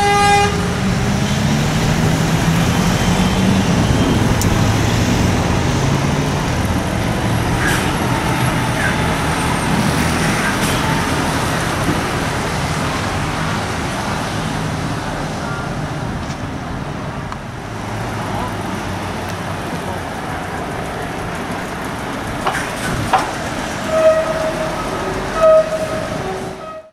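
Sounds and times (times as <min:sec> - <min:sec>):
road noise: 0:00.0 - 0:26.9.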